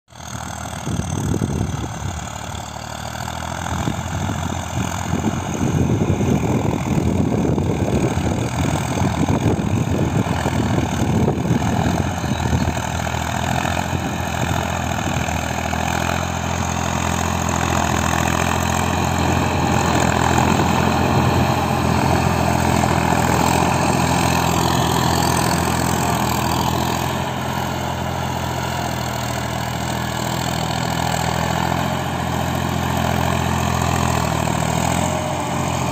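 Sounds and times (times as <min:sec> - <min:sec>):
tractor diesel engine running: 0:00.1 - 0:35.9.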